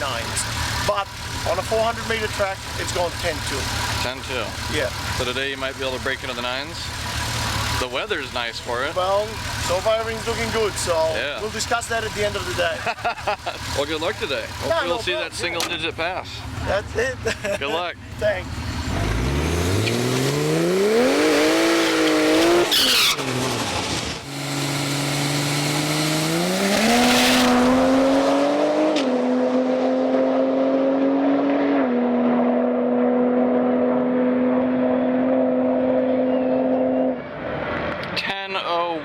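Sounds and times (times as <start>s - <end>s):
drag car engine accelerating: 0.0s - 17.5s, 18.1s - 38.2s.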